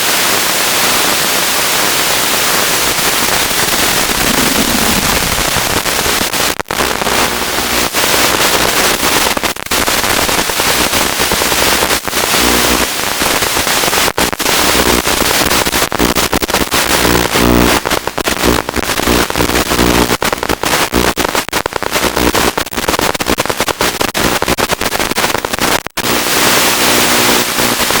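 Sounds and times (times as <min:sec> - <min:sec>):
crackling static hiss: 0:00.0 - 0:28.0
buzzing hum: 0:00.7 - 0:24.7.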